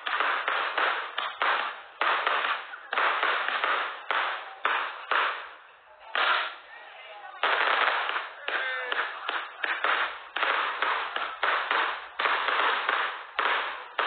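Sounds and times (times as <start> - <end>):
fireworks bangs: 0.0 - 6.6, 7.3 - 14.0.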